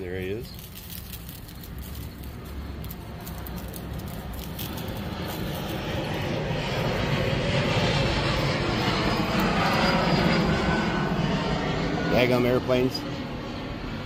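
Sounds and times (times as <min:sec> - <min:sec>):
airplane engine drone: 0:00.0 - 0:14.0.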